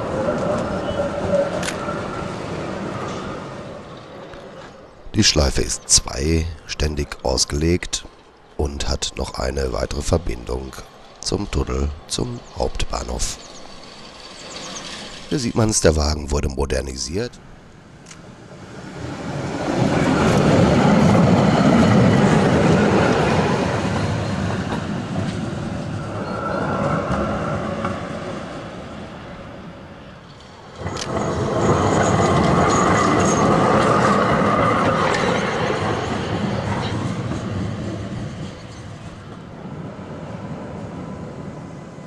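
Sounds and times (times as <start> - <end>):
tram rumbling past: 0.0 - 42.0
tram wheel squeal: 0.0 - 42.0.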